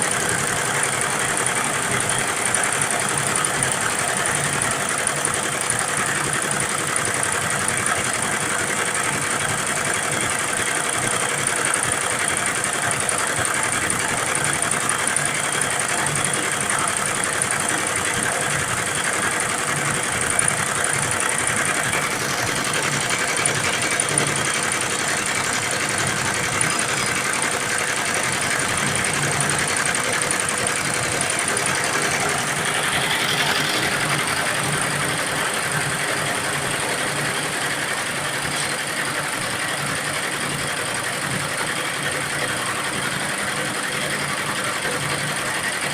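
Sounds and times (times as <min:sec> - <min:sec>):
embroidery machine stitching: 0:00.0 - 0:45.9.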